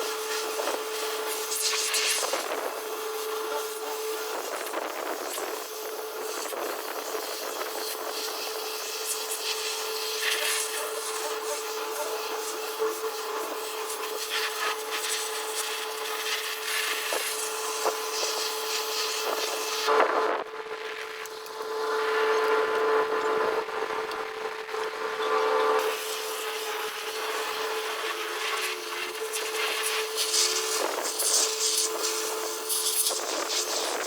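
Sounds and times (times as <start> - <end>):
continuous water spray hiss: 0.0 - 20.1, 25.8 - 34.0.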